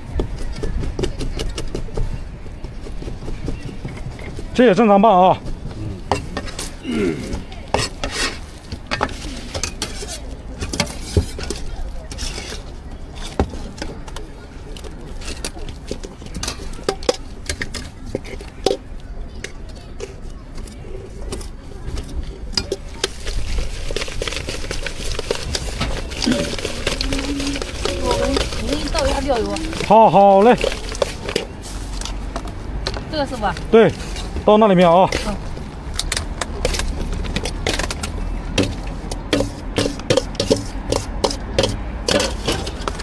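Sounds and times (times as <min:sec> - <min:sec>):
utensils clinking against bowl: 0:05.4 - 0:43.0.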